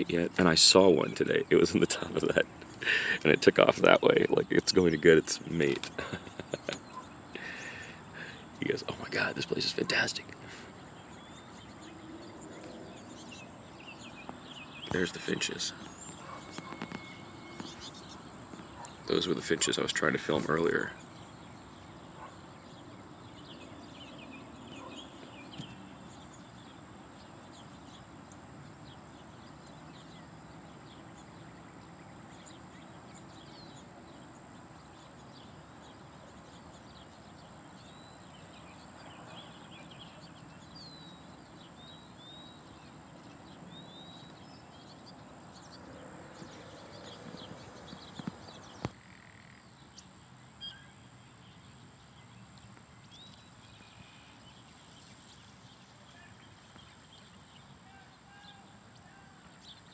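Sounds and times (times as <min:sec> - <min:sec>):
high-pitched insect buzz: 0:00.0 - 0:49.3
small birds chirping: 0:00.0 - 0:59.9.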